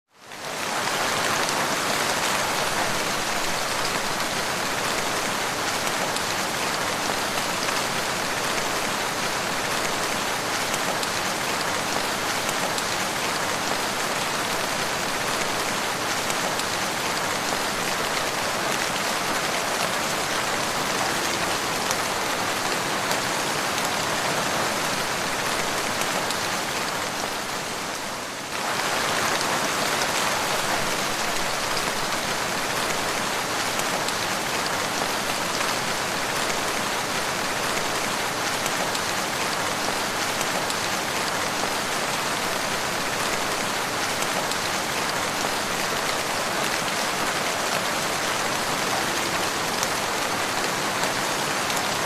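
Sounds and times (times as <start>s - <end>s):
rain falling: 0.1s - 52.0s.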